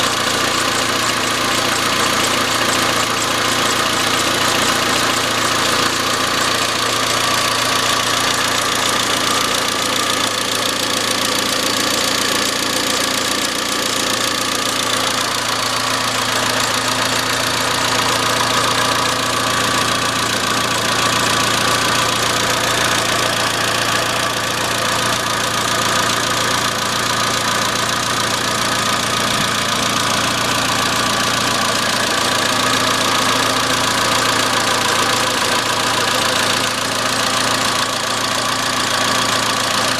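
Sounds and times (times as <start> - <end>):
car engine idling: 0.0 - 39.9
metallic engine knocking: 0.1 - 39.9.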